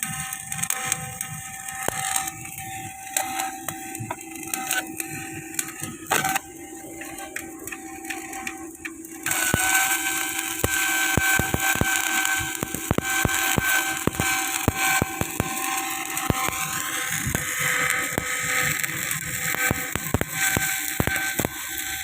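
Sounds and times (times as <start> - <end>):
steady hum: 0.0 - 22.0
welding arc crackling: 0.0 - 22.0.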